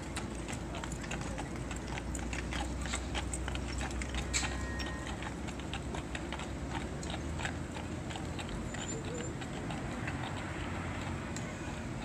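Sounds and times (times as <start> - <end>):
horse hooves clip-clopping on pavement: 0.0 - 12.0.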